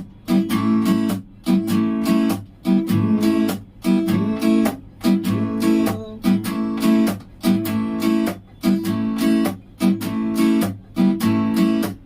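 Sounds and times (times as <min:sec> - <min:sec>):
guitar strummed in waltz pattern: 0:00.0 - 0:12.0.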